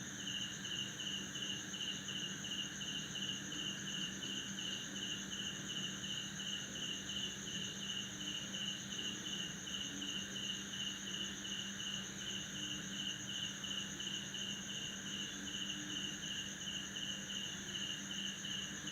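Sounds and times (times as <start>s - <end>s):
cricket chirping in pulses: 0.0s - 18.9s
high cricket trill: 0.0s - 18.9s.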